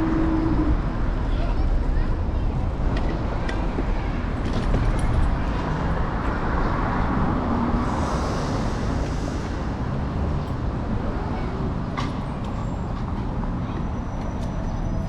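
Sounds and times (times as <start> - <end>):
city street traffic: 0.0 - 15.0
wind and road rumble: 0.0 - 15.0.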